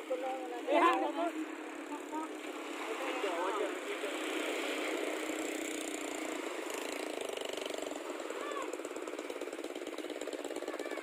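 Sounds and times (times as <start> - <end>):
small engine puttering: 0.0 - 11.0.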